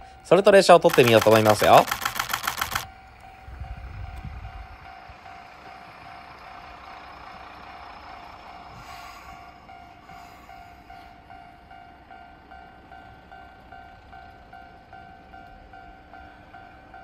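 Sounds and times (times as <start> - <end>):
diesel railcar running: 0.0 - 17.0.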